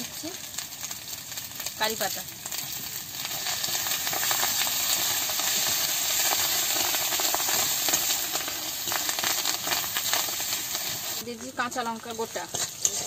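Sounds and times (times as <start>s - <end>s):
leaves sizzling in hot oil: 0.0s - 13.0s
metal spatula stirring in wok: 2.4s - 13.0s.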